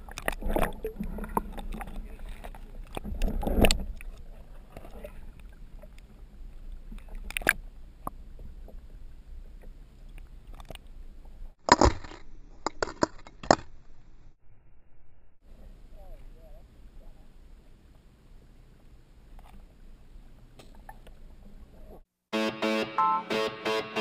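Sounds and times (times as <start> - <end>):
low underwater rumble of water: 0.0 - 11.6, 14.4 - 22.1.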